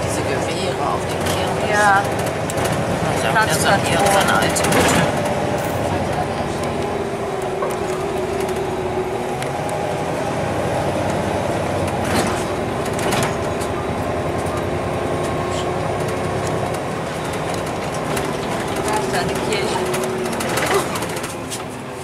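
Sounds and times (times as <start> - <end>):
bus body rattling: 0.0 - 22.0
bus engine humming: 0.0 - 22.0.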